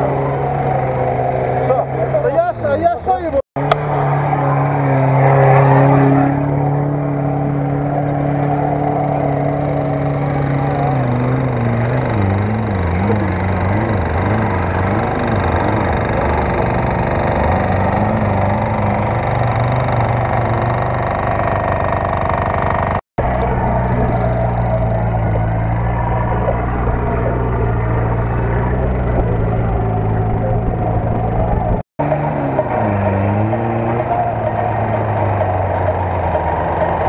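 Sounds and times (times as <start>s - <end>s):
off-road vehicle engine revving: 0.0s - 37.0s.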